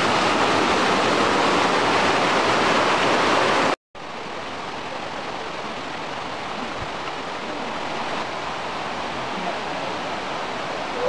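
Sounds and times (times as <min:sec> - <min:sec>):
running water: 0:00.0 - 0:11.0
water rushing over rocks: 0:00.0 - 0:11.0.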